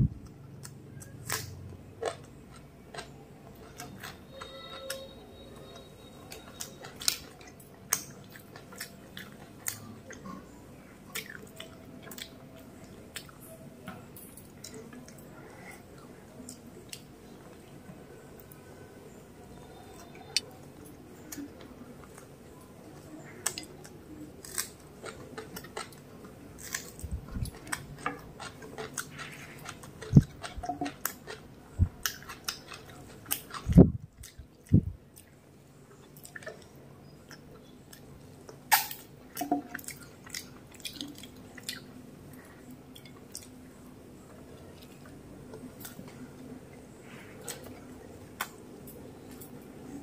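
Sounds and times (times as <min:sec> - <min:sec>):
chewing and wet mouth sounds: 0:00.0 - 0:50.0.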